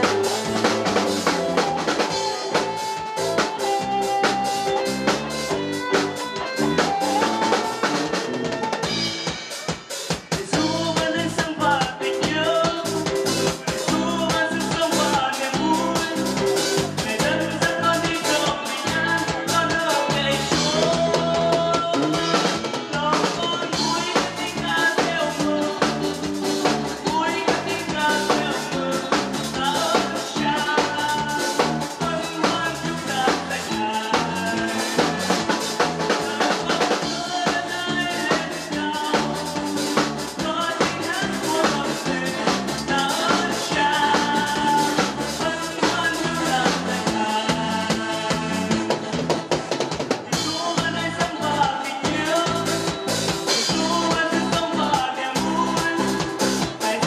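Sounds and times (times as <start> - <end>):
drum kit beat: 0.0 - 57.0
man singing into microphone: 0.0 - 57.0.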